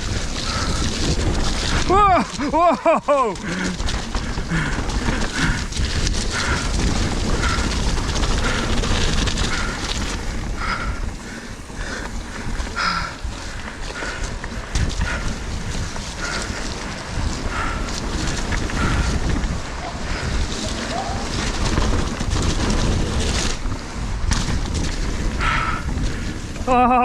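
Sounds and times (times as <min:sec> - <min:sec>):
wind rushing: 0:00.0 - 0:26.6
bike tyre rumble: 0:00.0 - 0:27.0.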